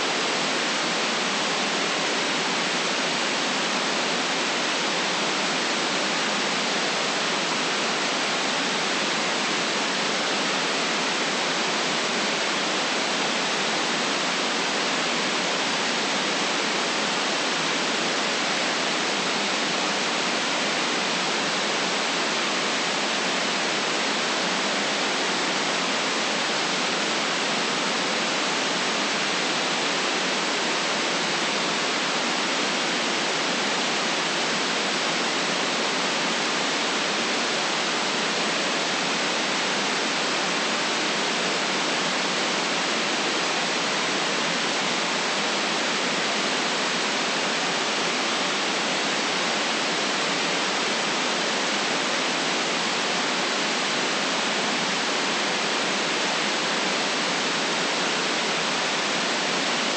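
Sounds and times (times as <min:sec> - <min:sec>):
steady white noise: 0:00.0 - 0:59.9.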